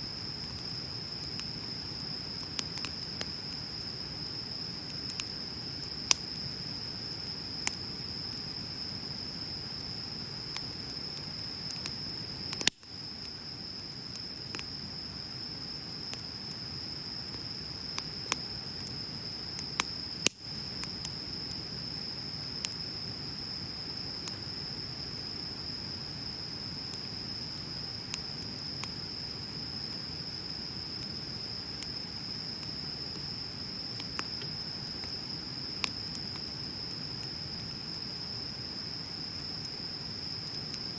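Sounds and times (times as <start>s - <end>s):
fire crackling pops: 0.1s - 38.2s.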